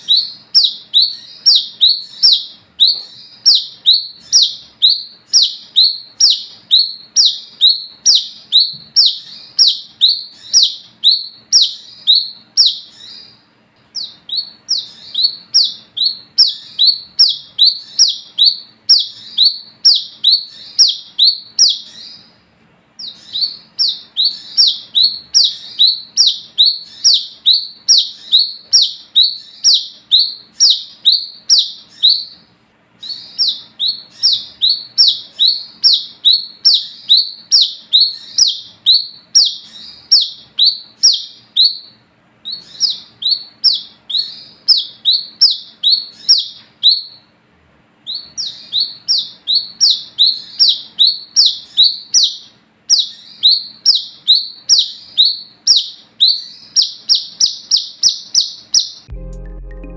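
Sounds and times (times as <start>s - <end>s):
sunbird calling: 0.0s - 22.4s, 23.0s - 47.3s, 48.0s - 59.2s.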